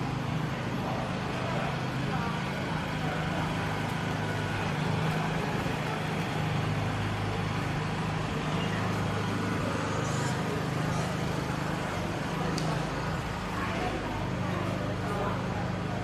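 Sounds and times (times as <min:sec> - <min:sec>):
faint voices of passers-by: 0:00.0 - 0:16.0
low street hum: 0:00.0 - 0:16.0.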